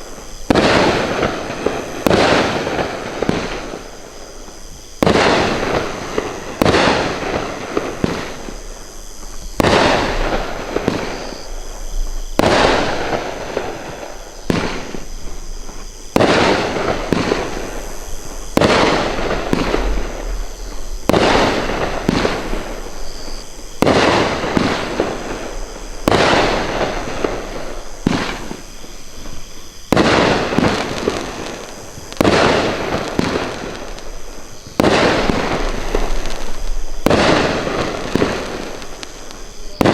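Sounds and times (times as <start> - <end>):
fireworks firing with crackling: 0.0 - 39.9.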